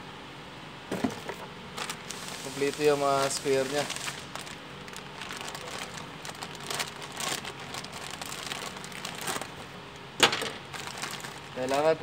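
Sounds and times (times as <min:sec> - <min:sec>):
plastic bag crinkling: 0:01.7 - 0:12.0.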